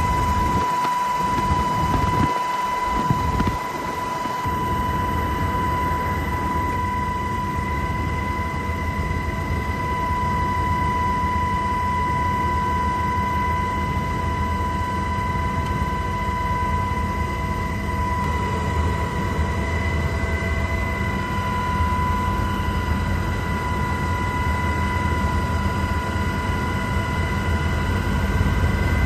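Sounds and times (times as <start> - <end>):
aircraft engine rumble: 0.0 - 29.0
high whine: 0.0 - 29.0.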